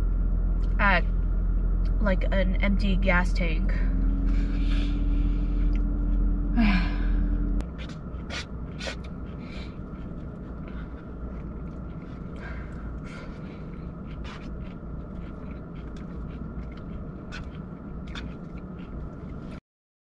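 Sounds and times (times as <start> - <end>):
low rumble in car cabin: 0.0 - 19.6.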